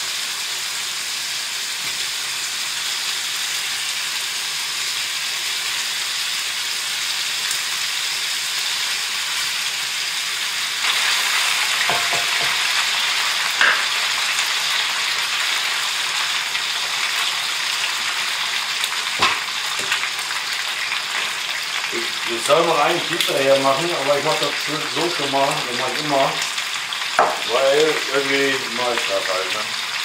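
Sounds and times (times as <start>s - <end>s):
bacon and potatoes sizzling: 0.0s - 30.0s.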